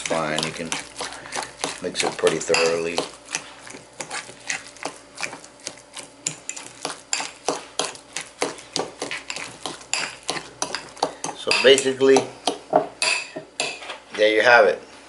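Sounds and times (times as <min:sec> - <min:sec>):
fork scraping glass bowl: 0:00.0 - 0:12.3.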